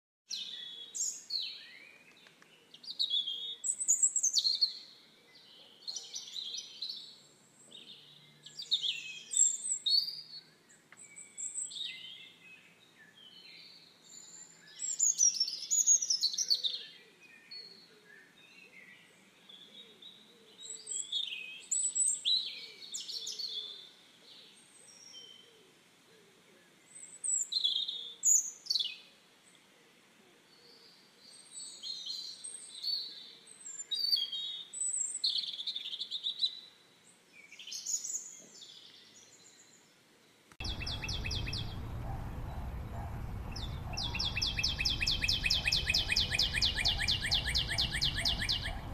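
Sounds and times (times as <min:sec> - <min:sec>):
songbirds chirping: 0:00.3 - 0:48.9.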